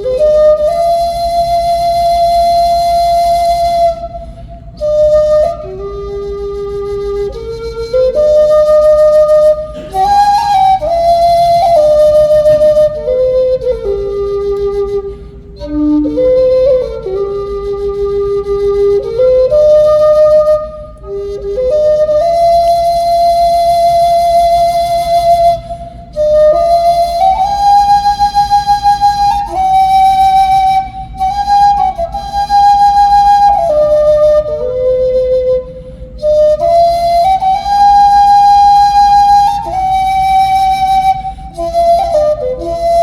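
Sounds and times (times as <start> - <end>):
flute playing slow melody: 0.0 - 43.0.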